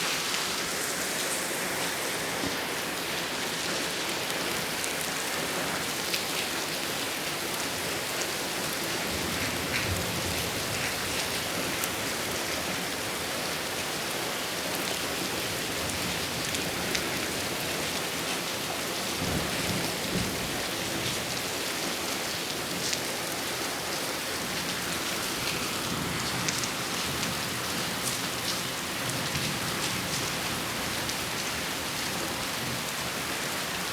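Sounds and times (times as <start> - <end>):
heavy rain pattering: 0.1 - 33.9.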